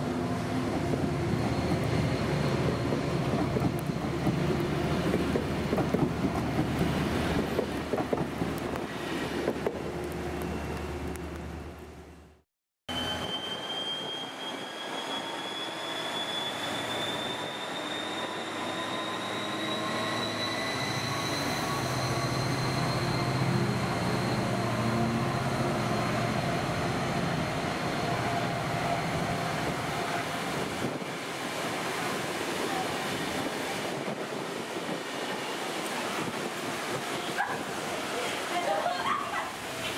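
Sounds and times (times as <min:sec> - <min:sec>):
diesel locomotive engine: 0:00.0 - 0:39.9.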